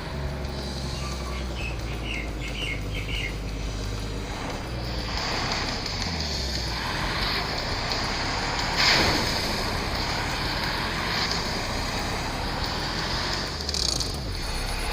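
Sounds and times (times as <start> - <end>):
truck rumbling off-road: 0.0 - 14.9.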